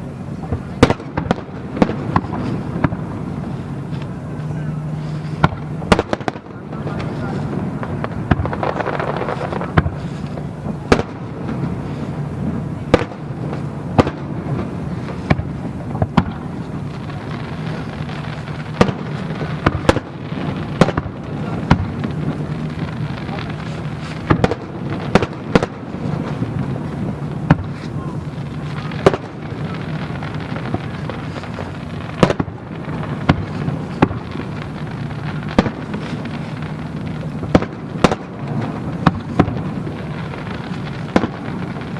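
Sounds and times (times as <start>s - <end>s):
fireworks bursting: 0.0s - 41.9s.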